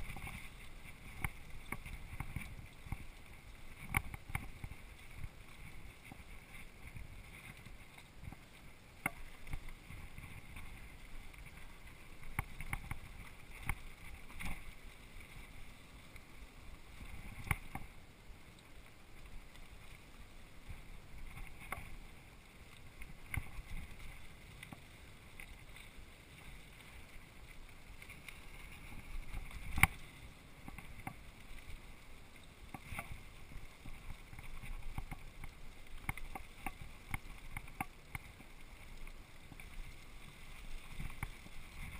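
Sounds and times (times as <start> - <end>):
trail and wind noise: 0.0 - 41.9.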